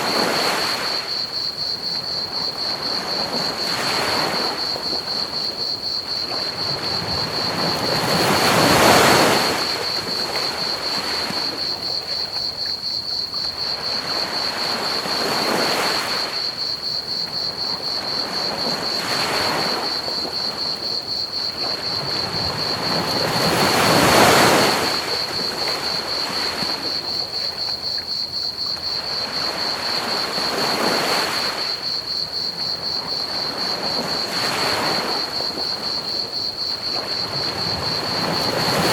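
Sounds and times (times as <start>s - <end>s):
crickets chirping: 0.0s - 38.9s
ocean waves on a beach: 0.0s - 38.9s.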